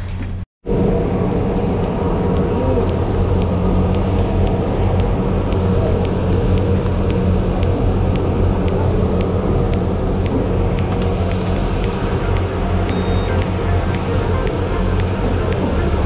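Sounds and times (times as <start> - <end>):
ship engines droning: 0.7 - 16.0
faint regular ticking: 1.7 - 16.0.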